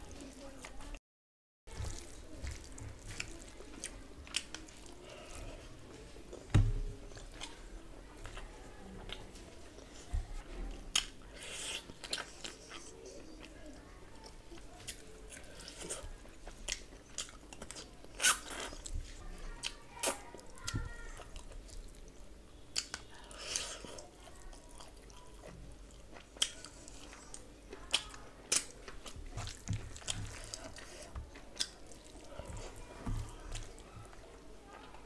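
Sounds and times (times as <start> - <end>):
person chewing food: 1.7 - 35.0.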